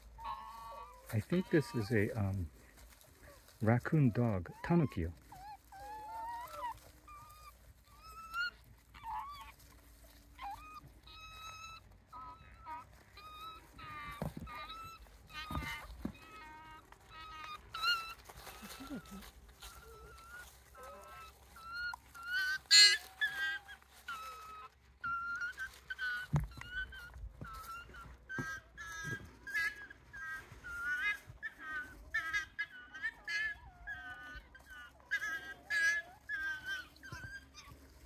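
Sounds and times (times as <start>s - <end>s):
animal pups whining: 0.0s - 38.0s.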